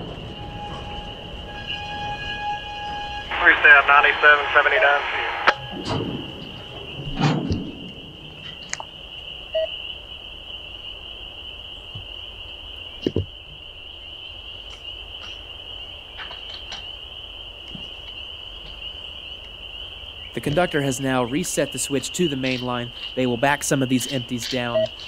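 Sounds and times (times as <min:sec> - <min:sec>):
frogs chorus: 0:00.0 - 0:25.0.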